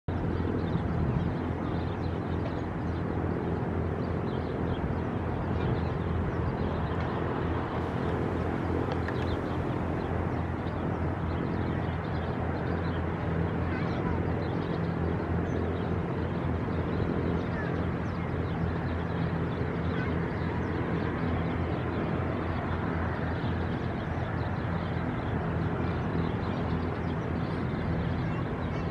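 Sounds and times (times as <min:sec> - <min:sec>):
distant jet engines rumbling: 0:00.1 - 0:28.9.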